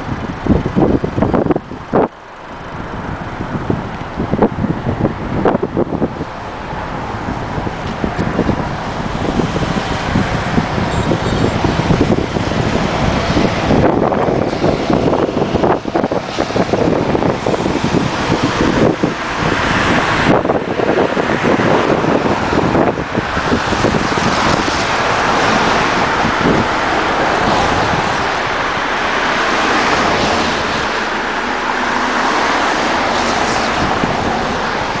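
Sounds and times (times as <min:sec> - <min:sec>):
road traffic passing: 0:00.0 - 0:35.0
wind buffeting microphone: 0:00.0 - 0:35.0.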